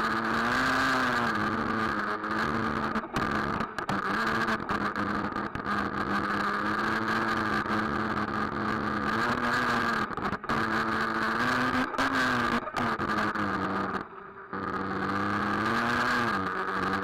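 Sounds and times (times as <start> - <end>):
small two-stroke engine running: 0.0 - 17.0.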